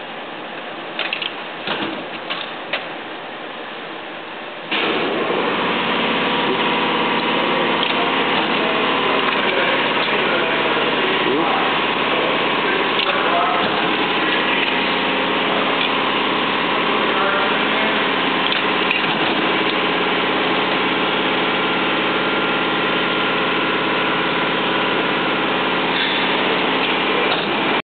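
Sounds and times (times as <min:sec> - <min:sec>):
machinery humming: 0:00.0 - 0:27.8.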